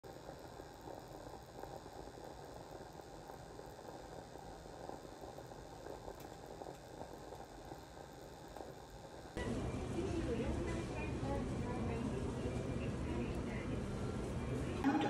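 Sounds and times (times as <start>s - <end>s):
facial steamer bubbling hiss: 0.0s - 15.0s.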